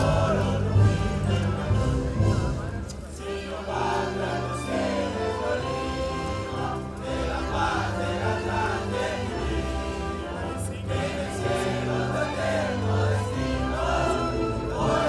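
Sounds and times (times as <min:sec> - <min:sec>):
choir singing held notes: 0:00.0 - 0:15.0
low accompaniment: 0:00.0 - 0:15.0.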